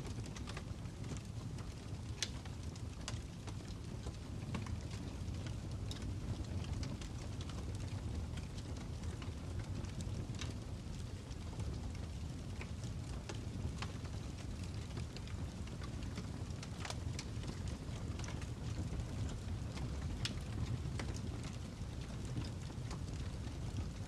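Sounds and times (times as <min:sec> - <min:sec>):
fire crackling: 0:00.0 - 0:24.0.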